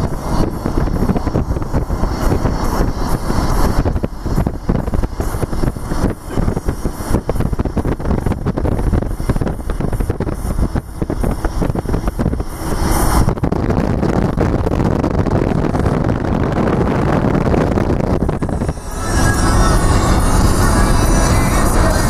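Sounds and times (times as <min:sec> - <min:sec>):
car road and engine noise: 0:00.0 - 0:22.0
wind buffeting microphone: 0:00.0 - 0:22.0.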